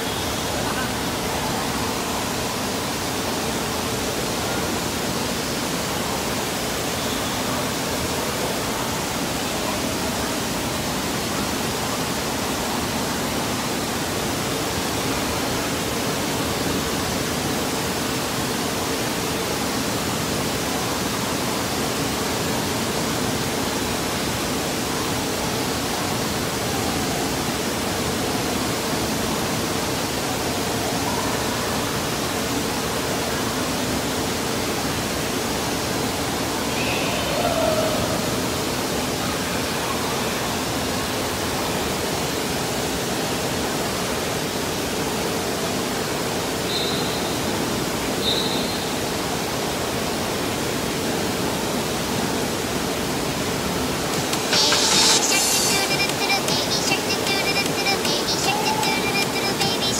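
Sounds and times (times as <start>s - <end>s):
splashing and falling water: 0.0s - 56.4s.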